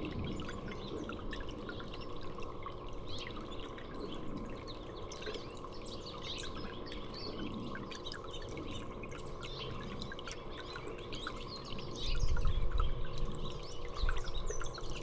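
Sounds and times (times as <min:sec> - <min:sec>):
songbirds chirping: 0:00.1 - 0:15.0.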